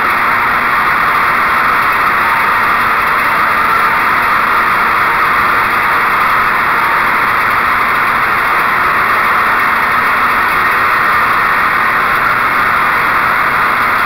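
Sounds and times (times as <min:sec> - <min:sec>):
mower cutting through dry leaves: 0:00.0 - 0:14.0
mower engine running: 0:00.0 - 0:14.0.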